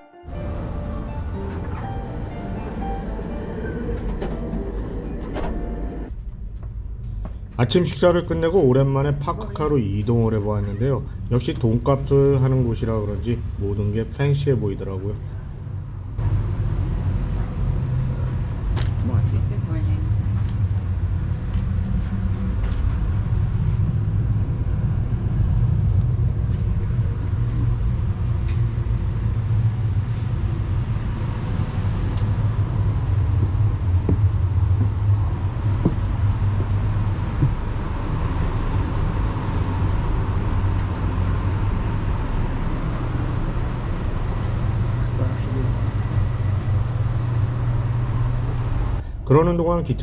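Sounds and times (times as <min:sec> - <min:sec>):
train rumble inside car: 0:00.3 - 0:50.0.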